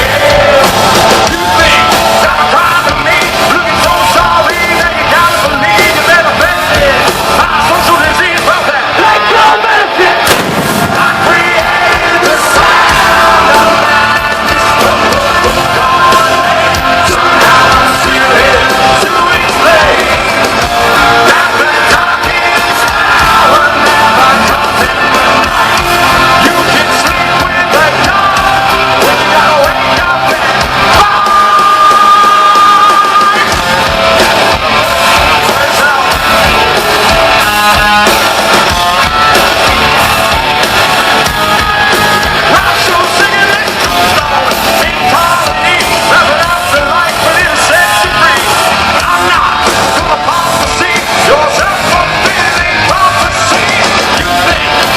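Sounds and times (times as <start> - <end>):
people yelling: 0.0 - 54.9
person singing lead vocal: 0.0 - 54.9
rock band playing live: 0.0 - 54.9.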